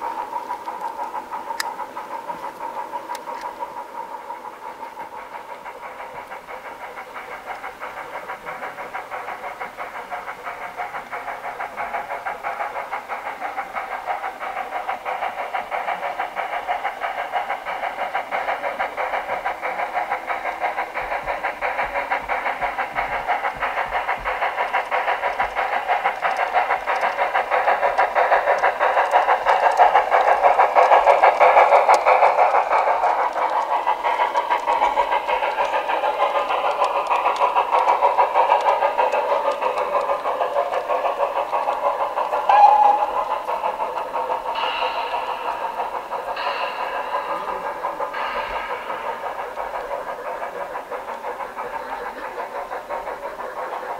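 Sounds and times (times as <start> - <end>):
model train rattling on track: 0.0 - 53.9.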